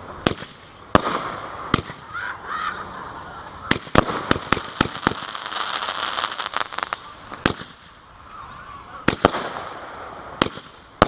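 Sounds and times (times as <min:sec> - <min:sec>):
fireworks crackling pops: 0:00.0 - 0:02.4, 0:03.4 - 0:11.0
loud firework bangs: 0:00.2 - 0:02.4, 0:03.4 - 0:08.0, 0:09.0 - 0:11.0.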